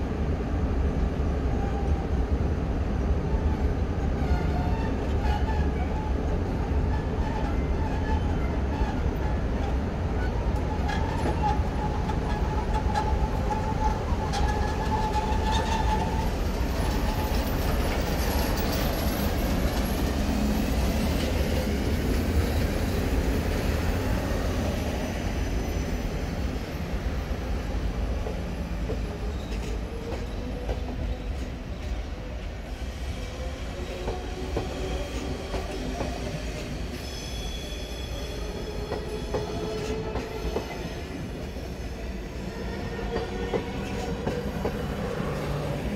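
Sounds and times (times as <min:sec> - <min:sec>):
train wheels rumbling on rails: 0:03.4 - 0:45.9.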